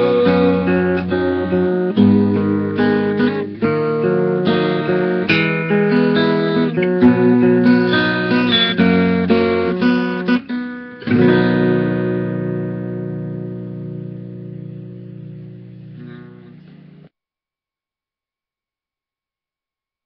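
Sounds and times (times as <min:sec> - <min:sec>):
acoustic guitar playing: 0:00.0 - 0:17.1.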